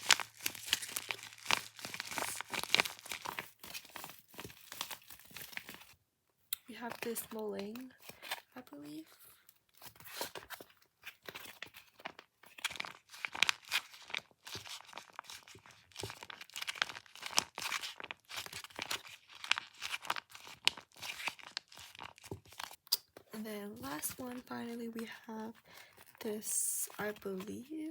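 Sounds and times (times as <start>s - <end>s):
plastic and tape crackling: 0.0s - 6.0s, 6.6s - 27.9s.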